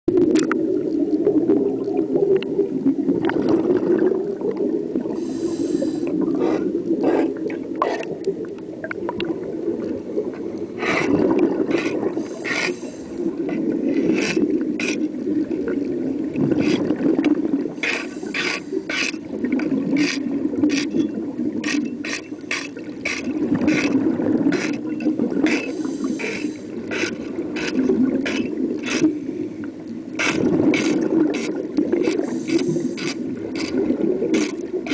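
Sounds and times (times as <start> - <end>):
underwater regulator bubbles: 0.1 - 34.9.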